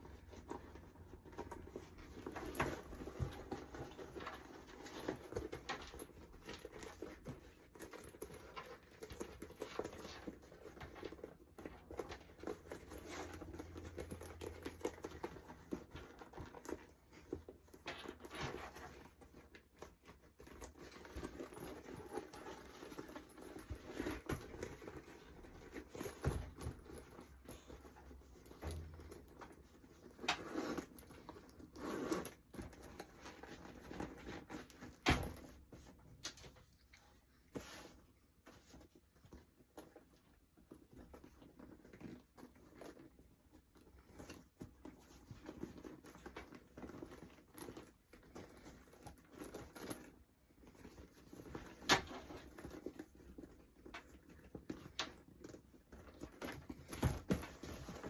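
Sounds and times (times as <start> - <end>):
leather creaking and rustling: 0.0 - 58.0.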